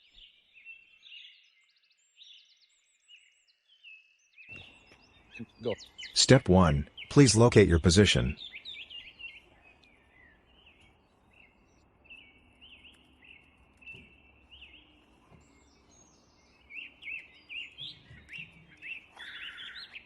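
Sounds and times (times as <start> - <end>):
songbirds chirping faintly: 0.0 - 20.0.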